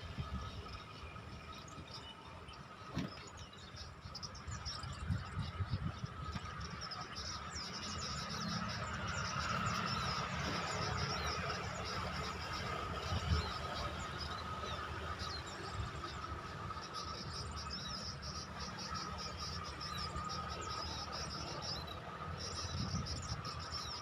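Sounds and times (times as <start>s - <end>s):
wind rumbling on microphone: 0.0s - 16.9s, 19.9s - 24.0s
insect-like drone: 0.0s - 24.0s
small birds chirping: 0.0s - 24.0s.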